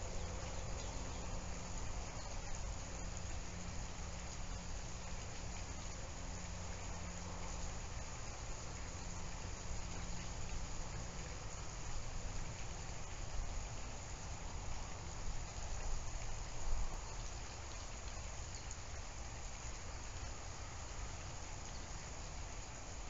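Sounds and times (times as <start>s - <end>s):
steady outdoor hiss and rumble: 0.0s - 23.0s.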